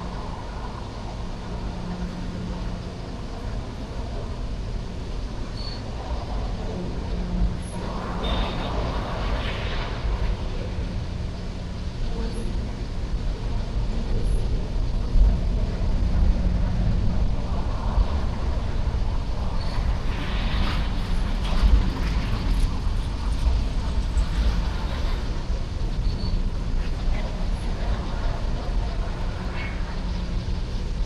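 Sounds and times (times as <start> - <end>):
freight train rumbling: 0.0 - 31.0.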